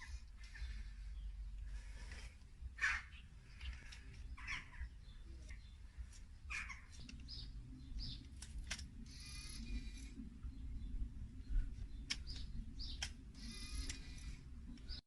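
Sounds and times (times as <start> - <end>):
birds chirping: 0.0 - 15.0
faint low rumble: 0.0 - 15.0.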